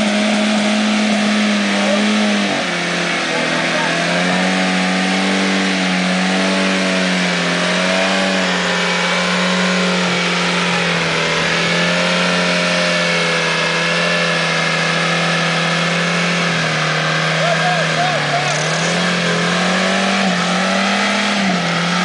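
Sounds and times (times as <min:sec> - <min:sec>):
car engine at high revs: 0:00.0 - 0:22.0.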